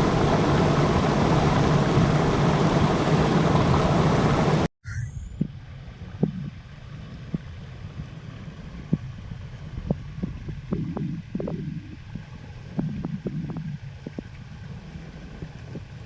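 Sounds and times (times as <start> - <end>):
low steady rumbling: 0.0 - 16.0.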